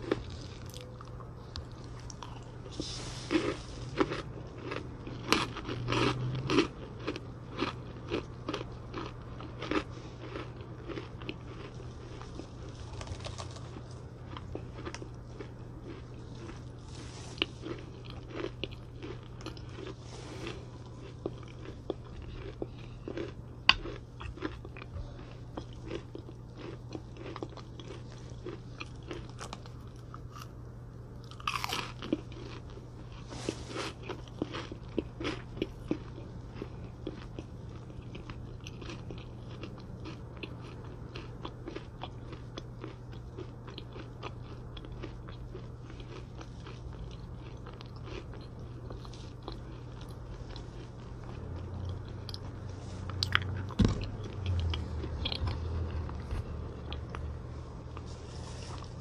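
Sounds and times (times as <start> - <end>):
crunchy snacks being chewed: 0.0 - 59.0
faint low hum: 0.0 - 59.0.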